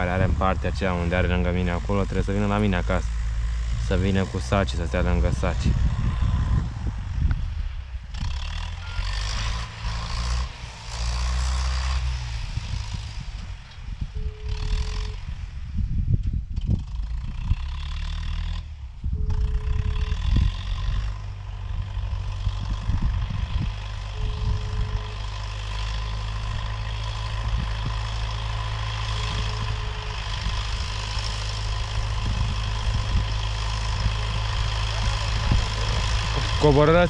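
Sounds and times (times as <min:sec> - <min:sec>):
low rumble: 0:00.0 - 0:08.8, 0:09.4 - 0:17.6, 0:18.6 - 0:37.0.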